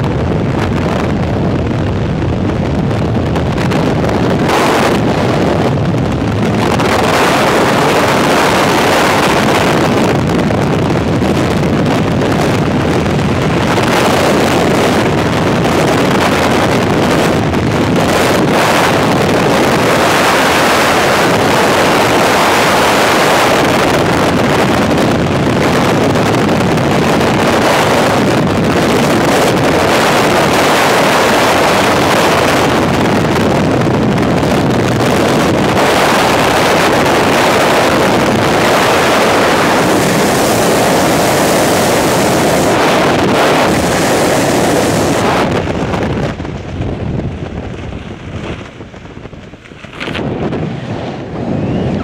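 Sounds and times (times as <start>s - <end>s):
wind rushing over microphone: 0.0s - 52.0s.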